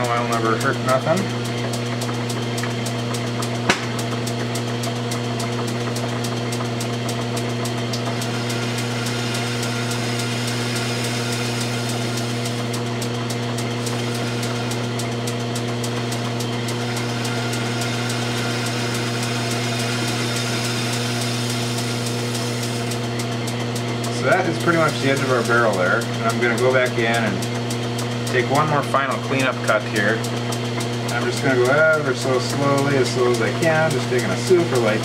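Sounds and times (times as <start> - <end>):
lathe motor humming: 0.0 - 35.0.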